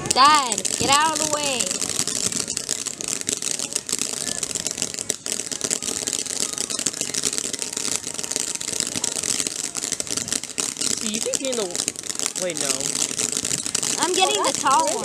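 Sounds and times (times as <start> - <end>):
firework fountain hissing and crackling: 0.0 - 15.0.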